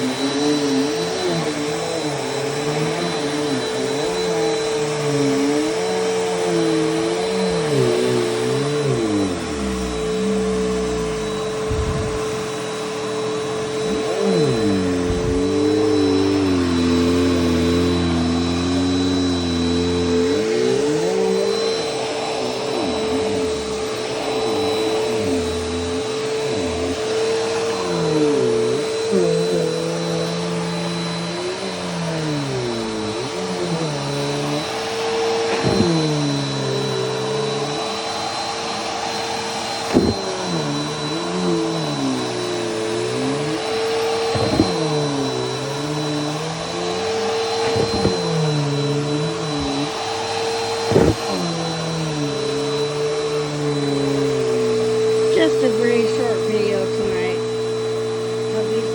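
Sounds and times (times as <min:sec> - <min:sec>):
vacuum cleaner whine: 0:00.0 - 0:58.9.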